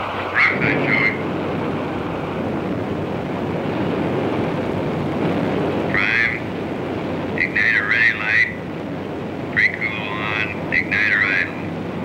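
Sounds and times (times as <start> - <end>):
jet aircraft noise in flight: 0.0 - 12.0.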